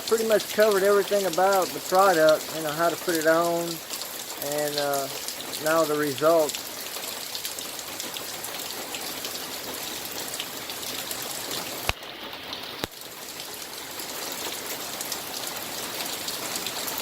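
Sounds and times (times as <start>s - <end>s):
heavy rain falling: 0.0s - 17.0s
running water: 0.0s - 17.0s.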